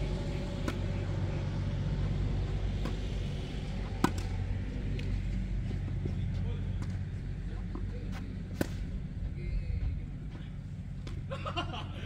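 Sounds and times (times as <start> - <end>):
low rumble: 0.0 - 11.1.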